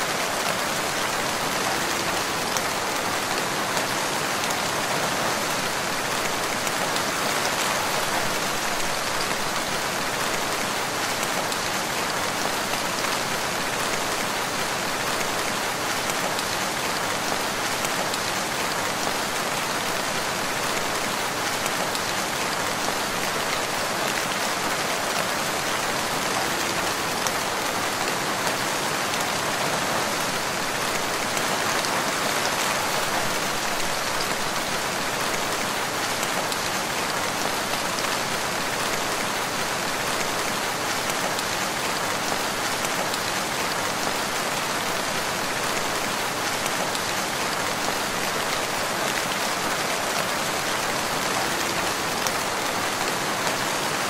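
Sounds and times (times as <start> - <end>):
rain falling in a forest: 0.0 - 54.0.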